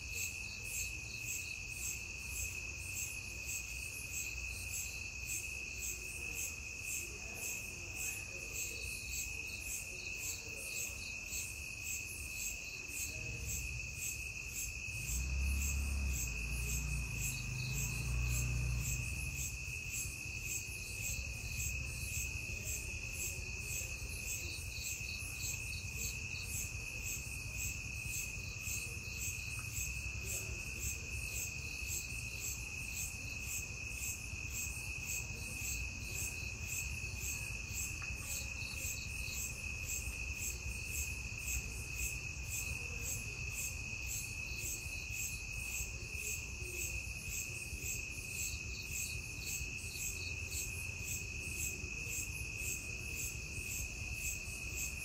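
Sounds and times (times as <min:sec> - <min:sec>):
crickets trilling: 0:00.0 - 0:55.0
pulsing cricket chirp: 0:00.0 - 0:55.0.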